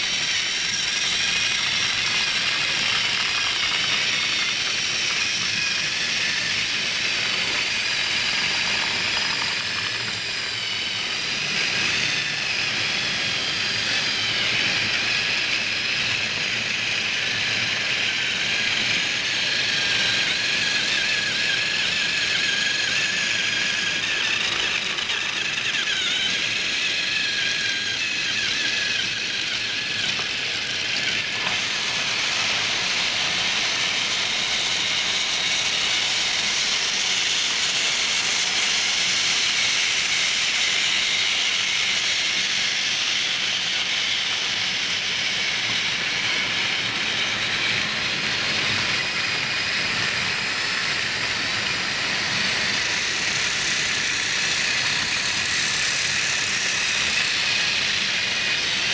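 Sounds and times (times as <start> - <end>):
toy train motors whirring: 0.0 - 58.9
wavering whine: 0.0 - 58.9.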